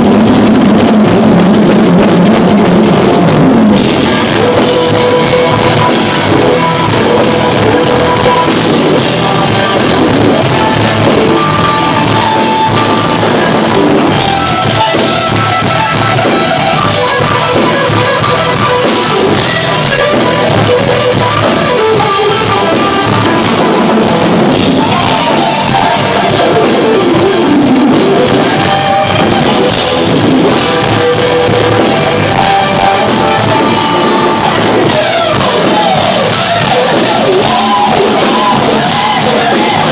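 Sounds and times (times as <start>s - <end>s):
electric guitar bending notes: 0.0s - 39.9s
live rock band playing: 0.0s - 39.9s
pounding drum kit: 0.0s - 39.9s.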